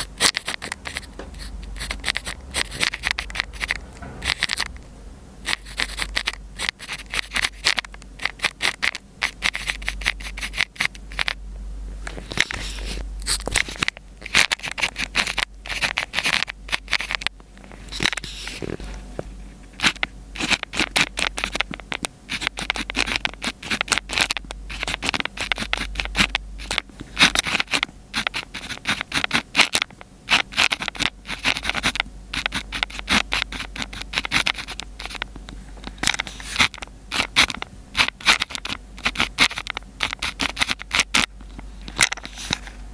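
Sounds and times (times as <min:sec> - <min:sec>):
pen scratching on paper: 0:00.0 - 0:04.7, 0:05.4 - 0:11.4, 0:12.4 - 0:17.3, 0:19.8 - 0:35.3, 0:36.1 - 0:41.3.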